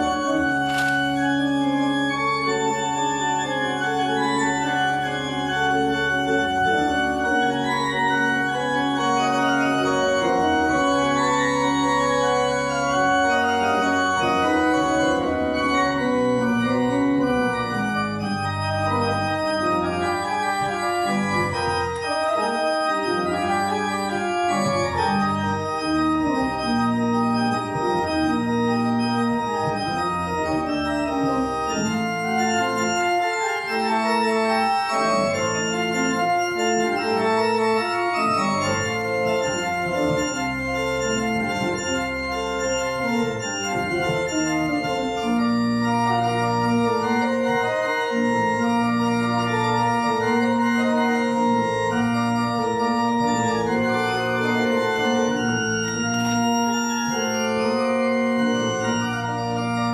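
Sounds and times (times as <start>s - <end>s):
church organ playing chords: 0.0s - 59.9s.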